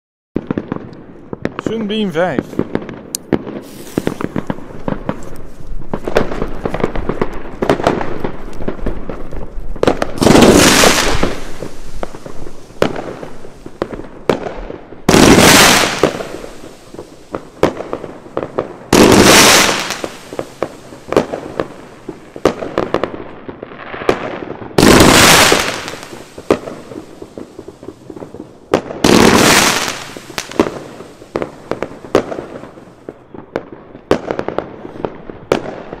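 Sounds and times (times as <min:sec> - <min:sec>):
firework cracks and bangs: 0:00.4 - 0:36.0
fireworks volleys hissing: 0:01.6 - 0:23.0, 0:24.8 - 0:33.0.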